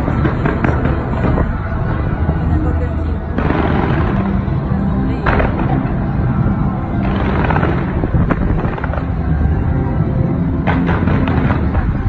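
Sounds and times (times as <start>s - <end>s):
fireworks bangs: 0.0s - 2.7s, 3.3s - 12.0s
music: 0.0s - 12.0s.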